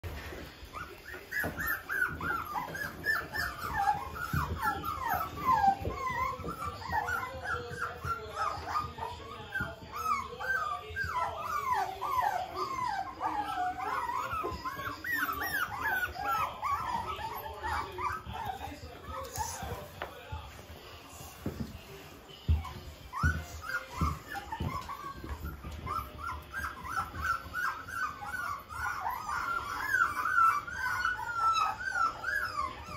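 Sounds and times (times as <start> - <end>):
puppies whining and yipping: 0.1 - 32.9.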